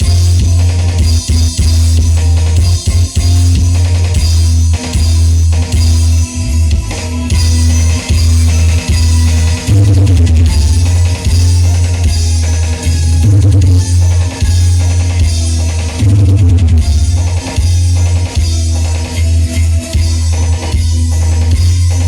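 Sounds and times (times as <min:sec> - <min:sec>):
loud music with heavy bass: 0:00.0 - 0:22.0.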